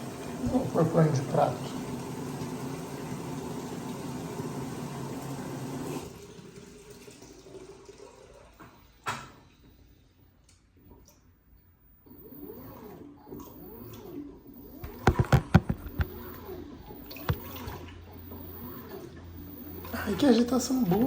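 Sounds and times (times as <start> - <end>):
water filling washing machine: 0.0 - 21.0.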